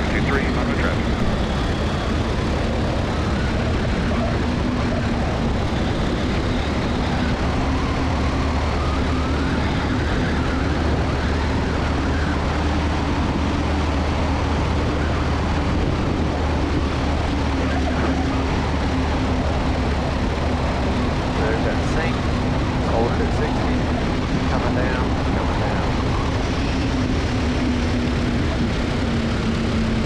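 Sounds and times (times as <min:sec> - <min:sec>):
aircraft engine idling: 0:00.0 - 0:30.0.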